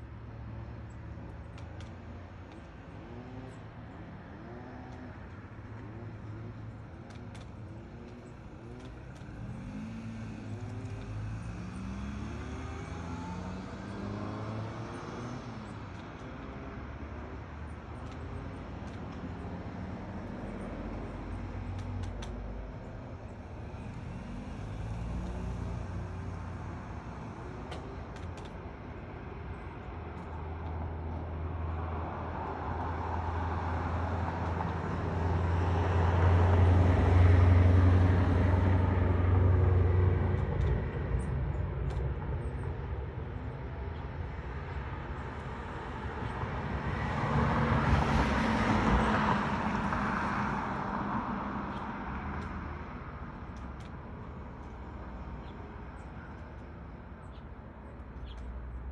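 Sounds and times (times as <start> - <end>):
vehicle passing with engine hum: 0.0 - 58.9.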